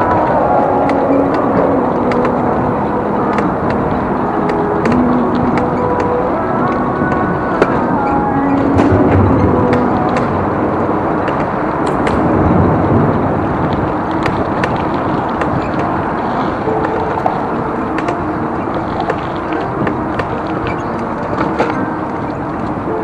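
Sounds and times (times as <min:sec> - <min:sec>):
tyre and wind noise: 0:00.0 - 0:23.0
bike clicks and rattles: 0:03.3 - 0:23.0.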